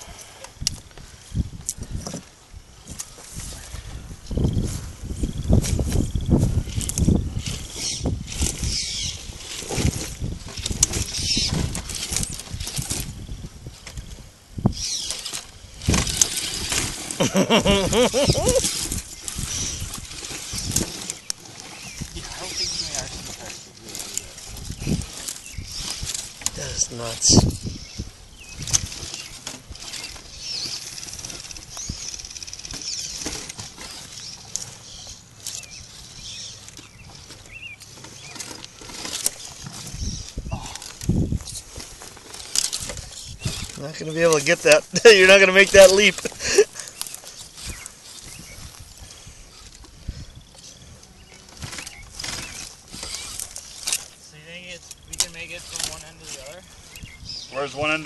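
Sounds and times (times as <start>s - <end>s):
electric motors and gears whining: 0.1s - 58.0s.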